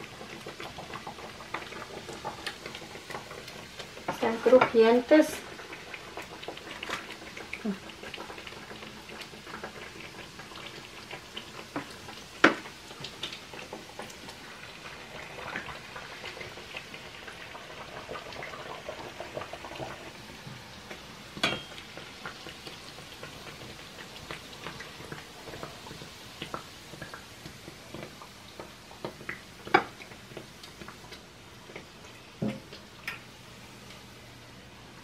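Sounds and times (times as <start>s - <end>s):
food deep-frying in hot oil: 0.0s - 35.0s.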